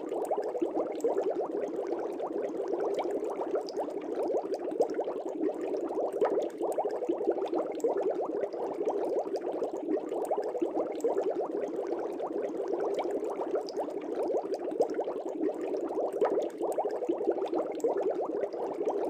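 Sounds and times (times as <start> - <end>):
air bubbles in fish tank water: 0.0 - 19.0.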